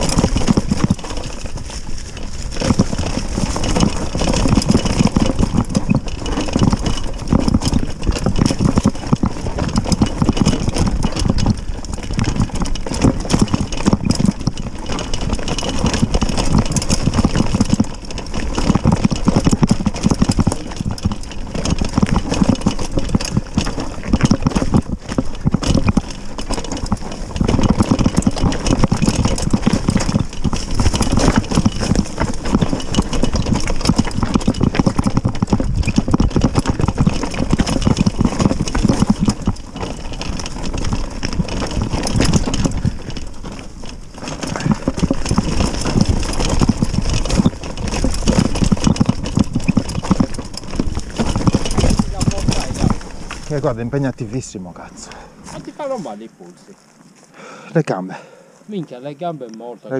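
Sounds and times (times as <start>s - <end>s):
bike knocking on ground: 0.0s - 58.3s
mountain bike rattling: 0.0s - 59.9s.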